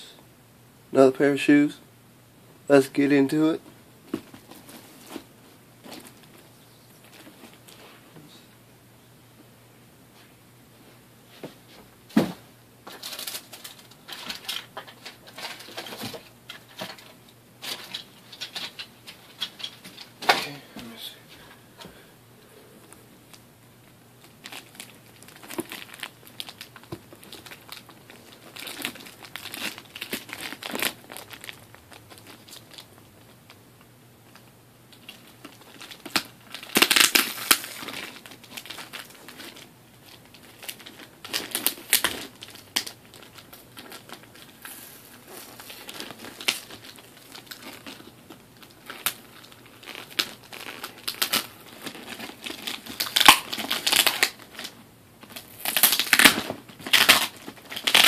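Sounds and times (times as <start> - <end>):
packaging crinkling and rustling: 4.0 - 7.8, 12.1 - 20.5, 23.2 - 58.0.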